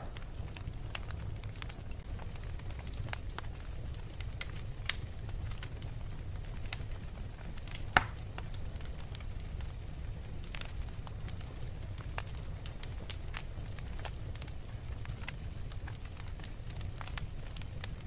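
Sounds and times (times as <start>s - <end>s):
flames rumbling: 0.0s - 18.0s
logs crackling and popping: 0.0s - 18.0s.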